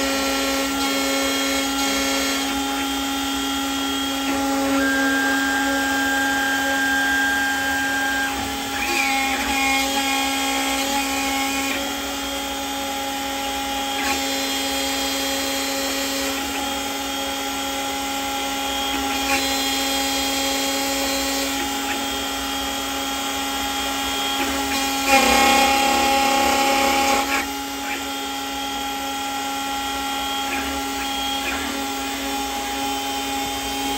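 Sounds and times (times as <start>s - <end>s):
end mill cutting metal: 0.0s - 33.9s
mill spindle whine: 0.0s - 33.9s.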